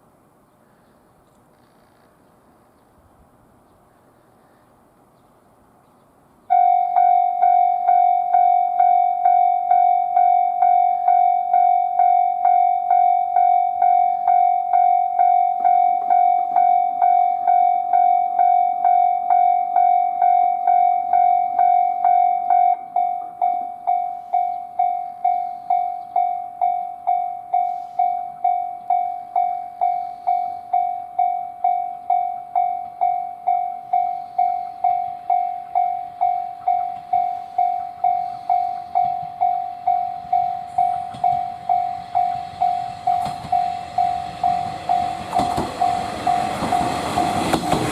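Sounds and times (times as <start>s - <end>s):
approaching train: 0.0s - 47.9s
level crossing warning bell: 6.5s - 47.9s.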